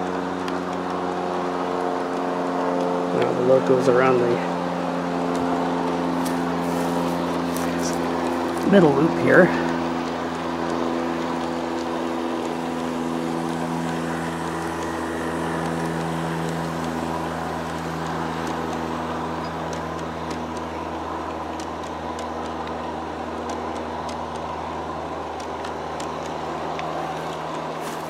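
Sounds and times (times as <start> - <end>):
model freight cars rumbling: 0.0 - 28.0
model locomotives humming: 0.0 - 28.0.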